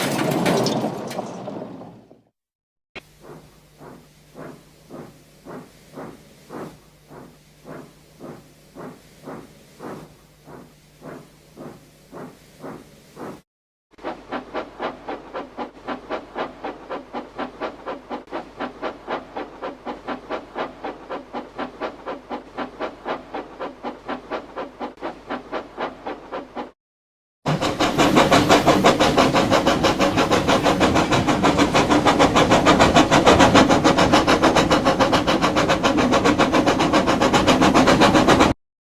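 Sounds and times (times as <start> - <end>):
engine chugging: 3.0 - 13.4, 14.0 - 26.7, 27.5 - 38.6.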